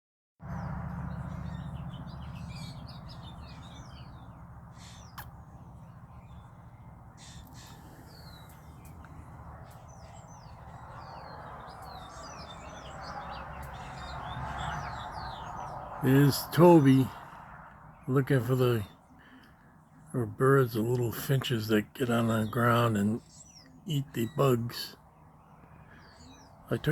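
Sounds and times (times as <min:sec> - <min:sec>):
harsh bird calls: 0:00.4 - 0:26.9
small birds chirping: 0:00.4 - 0:26.9.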